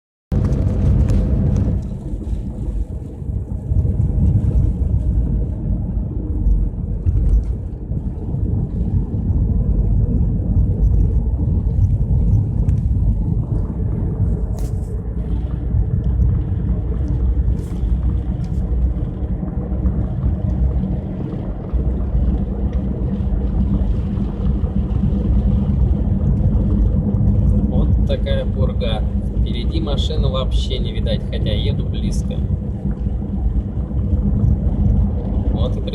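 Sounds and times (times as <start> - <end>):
car engine and road noise: 0.3 - 35.9.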